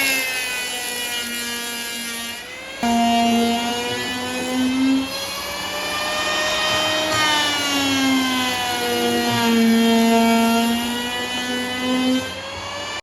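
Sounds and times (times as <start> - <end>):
cutting noise: 0.0 - 12.5
power tool motor running: 0.0 - 13.0.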